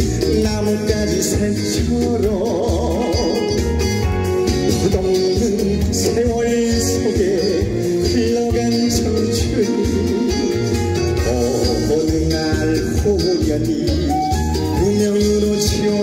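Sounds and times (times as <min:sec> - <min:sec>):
person singing into microphone: 0:00.0 - 0:16.0
recorded accompaniment with beat: 0:00.0 - 0:16.0.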